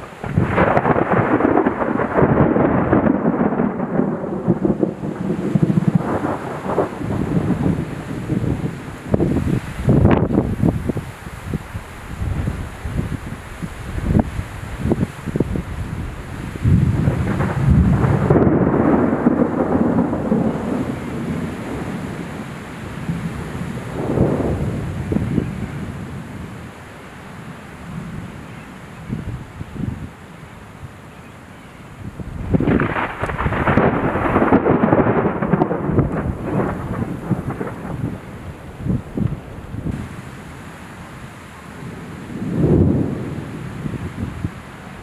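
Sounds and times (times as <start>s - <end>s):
rolling thunder: 0.0s - 26.5s, 32.0s - 40.2s, 41.8s - 44.6s
wind buffeting microphone: 0.0s - 26.6s, 29.0s - 30.2s, 31.9s - 40.4s, 41.8s - 45.0s.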